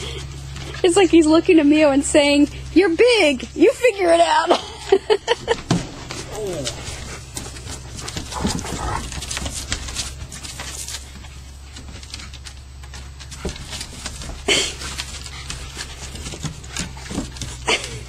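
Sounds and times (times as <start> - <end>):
dogs scuffing and clicking: 0.0 - 18.0.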